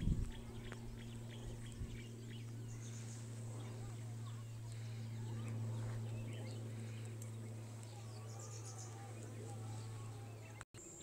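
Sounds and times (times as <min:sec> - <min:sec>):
birds chirping faintly: 0:00.0 - 0:11.0
steady low hum: 0:00.0 - 0:11.0.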